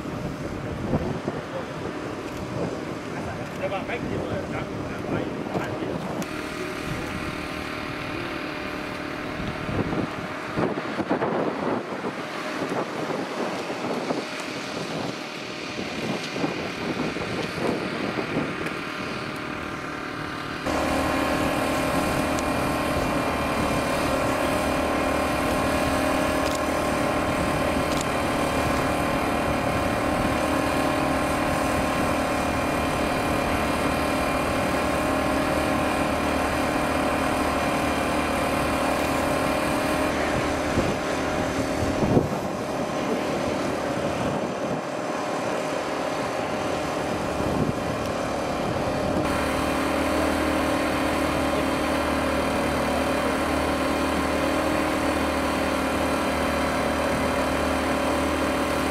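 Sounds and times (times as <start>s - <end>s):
engine humming steadily: 0.0s - 58.9s
outdoor background noise: 0.0s - 58.9s.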